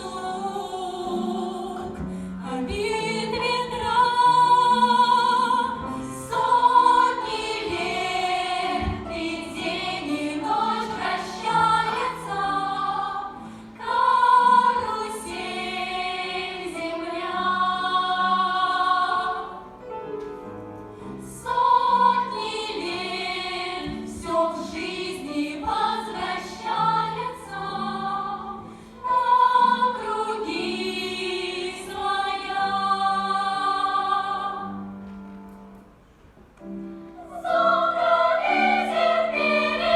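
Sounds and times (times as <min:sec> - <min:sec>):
choir singing: 0:00.0 - 0:19.8, 0:21.2 - 0:35.0, 0:37.1 - 0:39.9
musical accompaniment: 0:00.0 - 0:39.9.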